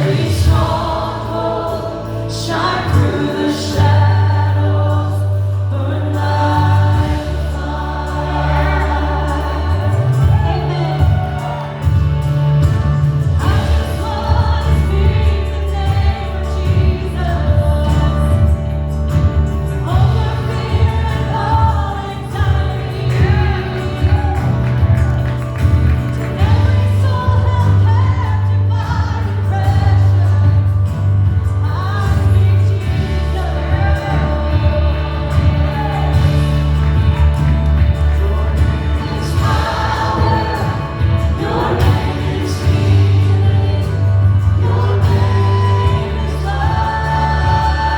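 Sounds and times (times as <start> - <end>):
band with strong bass: 0.0 - 47.9
several voices singing worship song: 0.0 - 47.9.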